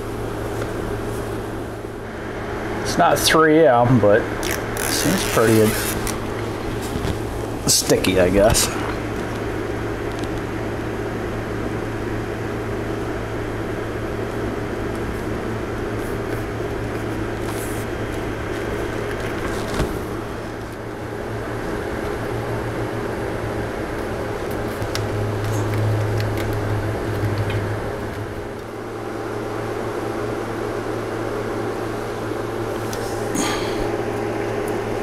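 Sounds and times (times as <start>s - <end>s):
fan machine hum: 0.0s - 35.0s.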